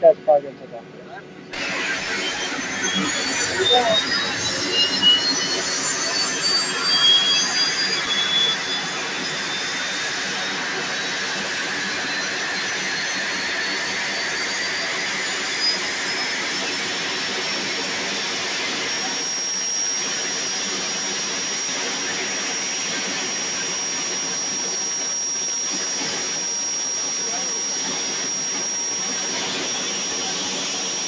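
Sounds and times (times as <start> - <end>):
aircraft turbine engine spooling up: 0.0 - 31.0.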